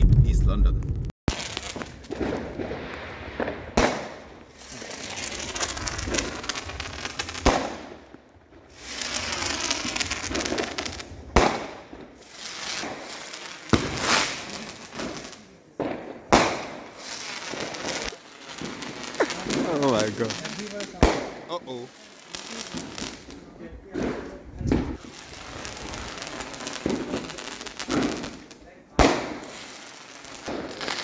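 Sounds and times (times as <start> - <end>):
firework bangs: 0.0 - 31.0
firework crackling: 0.0 - 31.0.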